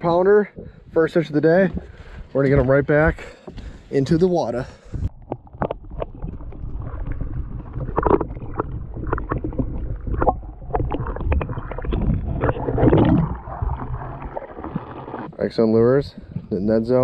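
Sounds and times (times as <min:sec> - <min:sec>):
muffled underwater sloshing: 0:00.0 - 0:17.0.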